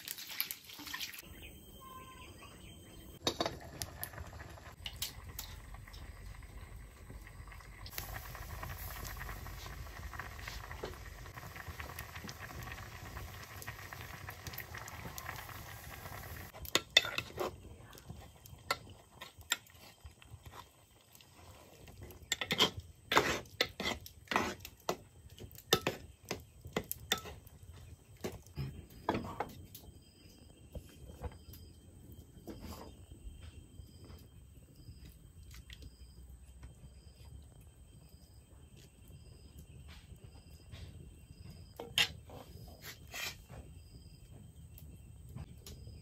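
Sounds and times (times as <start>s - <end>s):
pot boiling with a hiss: 0.0s - 46.0s.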